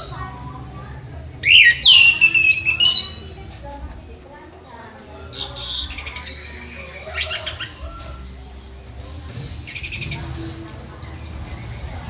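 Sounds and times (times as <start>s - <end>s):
thrush singing: 0.0s - 3.6s, 4.6s - 12.0s.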